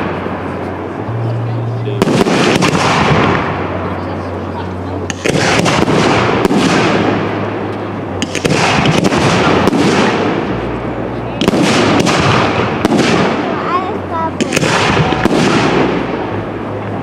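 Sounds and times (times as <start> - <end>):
crackling rumble of fireworks: 0.0 - 17.0
fireworks bangs: 0.0 - 17.0.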